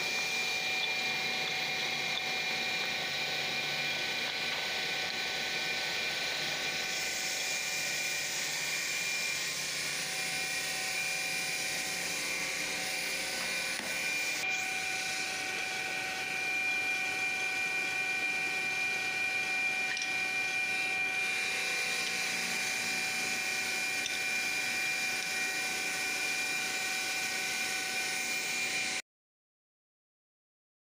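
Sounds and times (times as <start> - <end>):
stone-cutting saw whining: 0.0 - 29.0.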